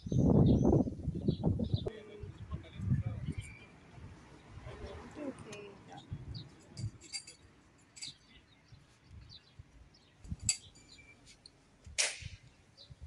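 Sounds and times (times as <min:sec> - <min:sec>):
small birds chirping: 0:00.0 - 0:11.5, 0:12.2 - 0:13.0.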